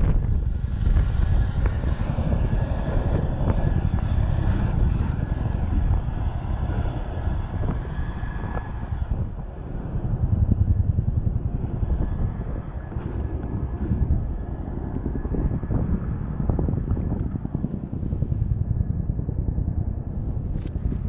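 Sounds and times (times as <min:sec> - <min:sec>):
helicopter turbine whine: 0:00.0 - 0:21.0
wind buffeting microphone: 0:00.0 - 0:21.0.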